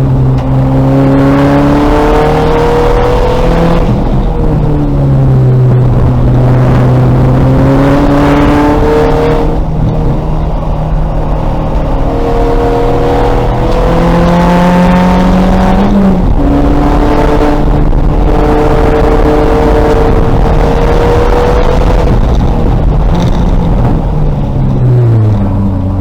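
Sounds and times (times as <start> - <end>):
race car engine accelerating: 0.0 - 26.0
road and wind noise: 0.0 - 26.0.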